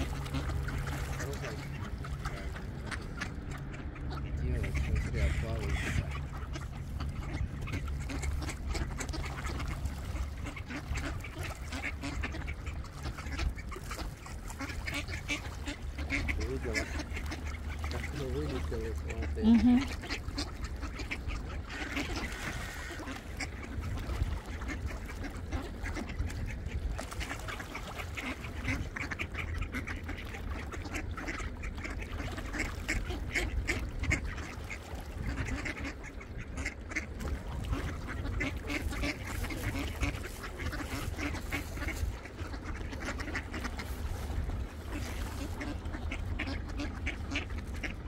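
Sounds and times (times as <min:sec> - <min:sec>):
ducks quacking: 0:00.0 - 0:48.0.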